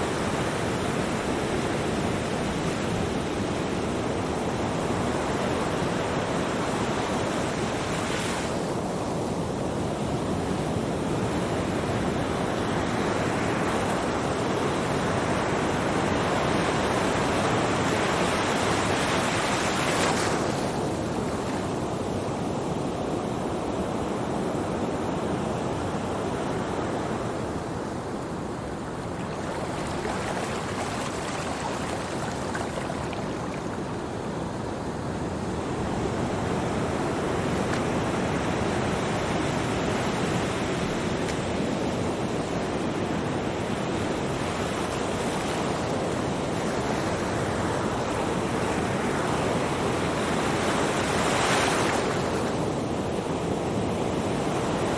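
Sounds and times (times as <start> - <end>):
waves breaking on shore: 0.0 - 54.9.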